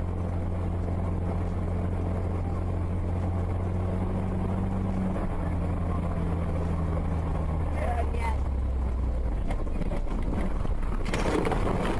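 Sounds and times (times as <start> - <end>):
engine drone inside vehicle: 0.0 - 11.9
road noise: 0.0 - 11.9.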